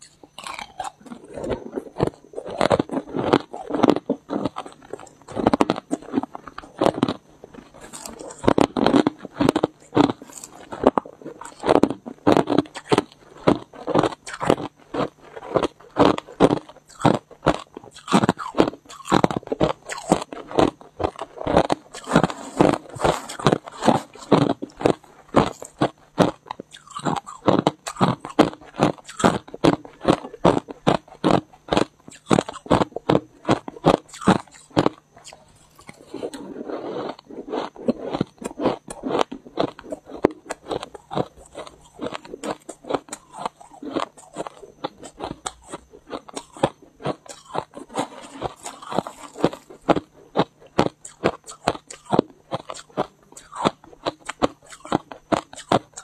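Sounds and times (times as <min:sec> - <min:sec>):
ice crunching in mouth: 0:00.0 - 0:56.0.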